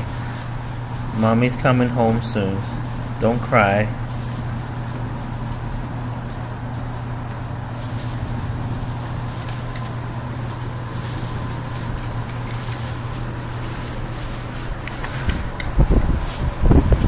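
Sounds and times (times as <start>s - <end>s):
constant low hum: 0.0s - 17.0s.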